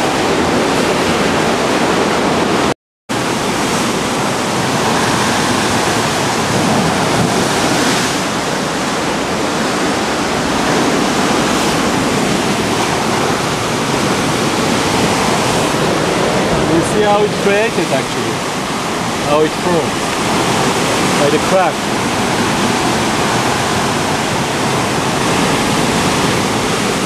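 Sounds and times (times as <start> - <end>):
sea surf rushing through rocks: 0.0 - 27.0.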